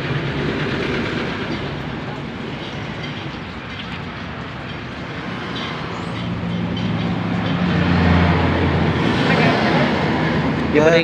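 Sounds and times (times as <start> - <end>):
low engine rumble: 0.0 - 11.0
steady background noise: 0.0 - 11.0.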